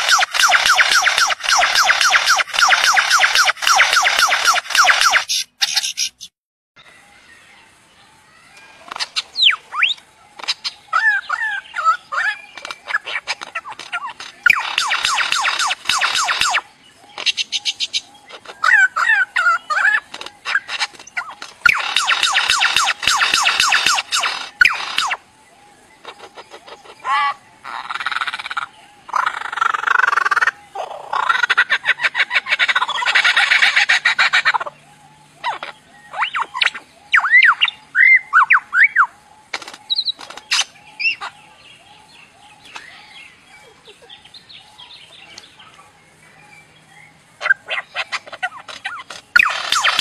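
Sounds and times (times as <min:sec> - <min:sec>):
lyrebird singing: 0:00.0 - 0:50.0.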